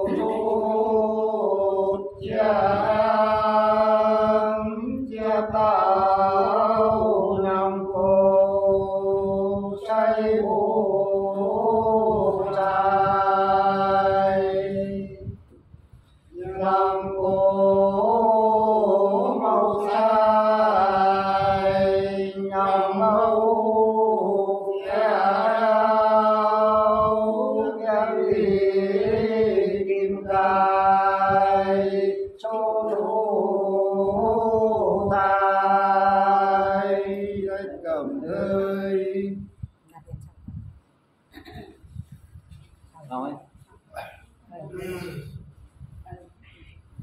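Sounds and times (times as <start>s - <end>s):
man singing unaccompanied: 0.0s - 15.3s, 16.4s - 39.6s.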